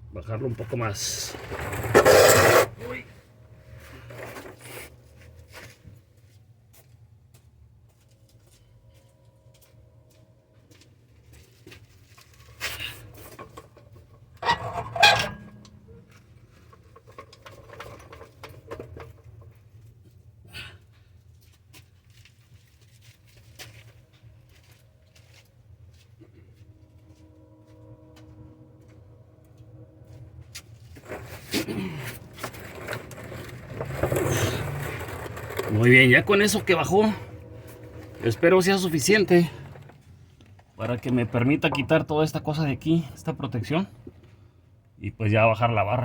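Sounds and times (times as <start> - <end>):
low workshop hum: 0.0 - 46.0.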